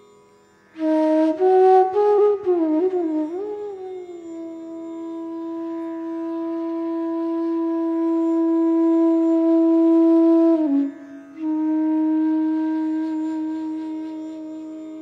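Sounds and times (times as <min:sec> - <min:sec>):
wind instrument long note: 0:00.8 - 0:15.0.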